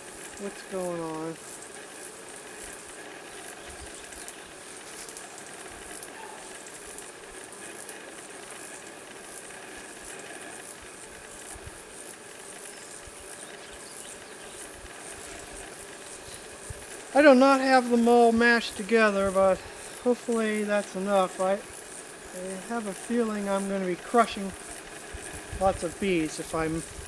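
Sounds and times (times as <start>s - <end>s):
honey bees humming: 0.0s - 27.0s.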